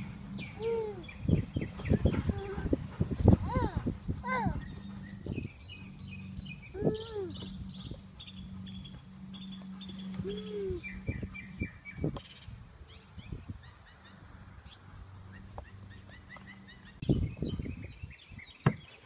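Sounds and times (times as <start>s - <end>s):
low hum: 0.0s - 18.2s
small birds chirping: 0.0s - 19.0s.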